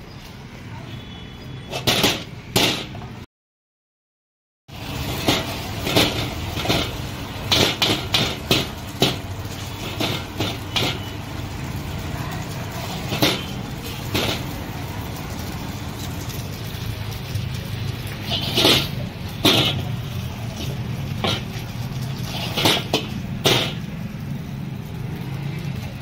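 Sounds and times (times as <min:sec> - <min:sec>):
metal cooking utensils clanking: 0:01.6 - 0:03.1, 0:04.8 - 0:24.3.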